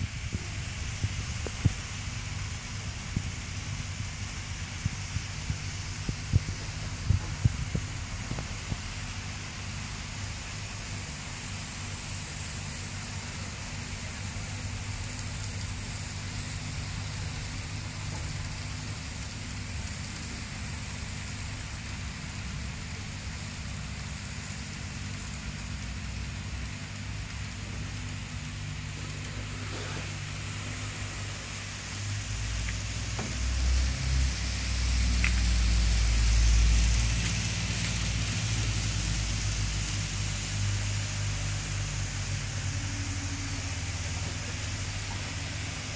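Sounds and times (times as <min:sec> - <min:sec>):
model trains whirring on track: 0:00.0 - 0:45.9
steady low hum: 0:00.0 - 0:45.9.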